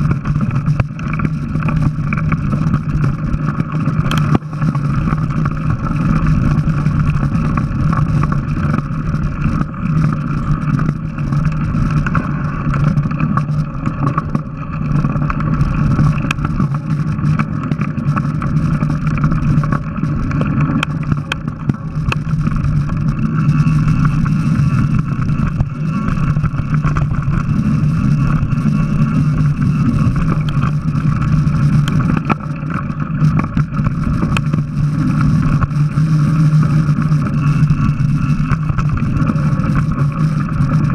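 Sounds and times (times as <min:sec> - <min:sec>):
bike tyres rumbling on dirt: 0:00.0 - 0:40.9.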